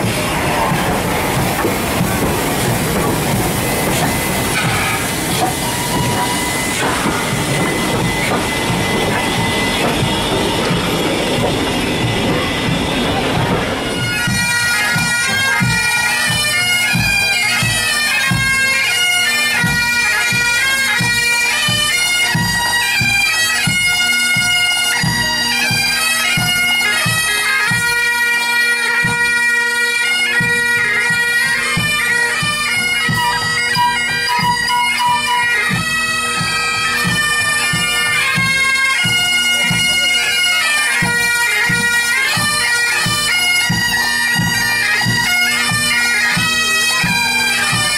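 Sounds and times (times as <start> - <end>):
bagpipes playing a march: 0.0 - 47.9
drums keeping a beat: 0.0 - 47.9.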